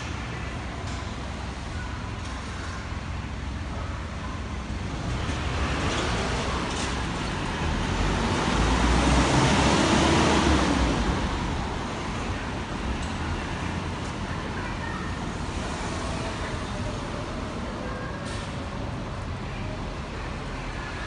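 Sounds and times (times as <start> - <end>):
bus driving past: 0.0 - 21.0
street traffic hum: 0.0 - 21.0.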